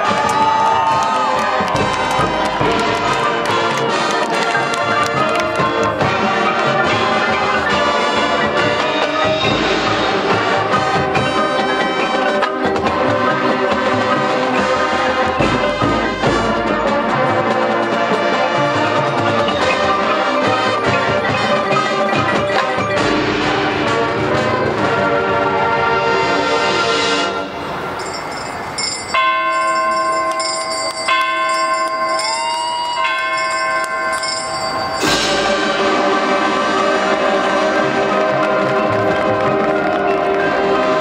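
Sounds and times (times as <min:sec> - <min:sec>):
mallet percussion: 0:00.0 - 0:25.1, 0:28.0 - 0:41.0
drums: 0:00.0 - 0:26.8, 0:34.4 - 0:41.0
marching band brass: 0:00.0 - 0:28.0, 0:30.0 - 0:41.0.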